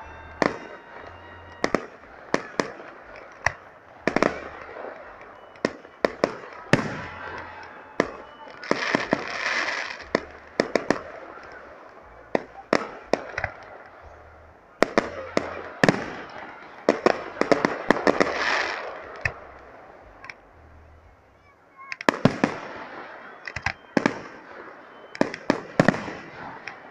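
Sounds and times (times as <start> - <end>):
fireworks bangs: 0.0 - 21.0, 21.9 - 26.9
fireworks crackle: 0.0 - 21.3, 21.9 - 26.9.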